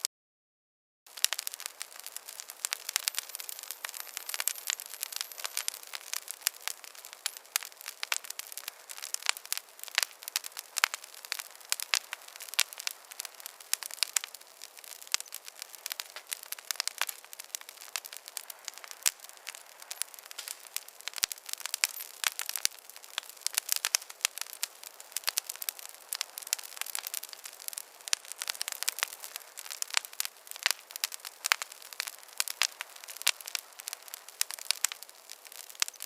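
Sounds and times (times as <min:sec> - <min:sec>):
campfire crackling and popping: 0:01.1 - 0:36.0.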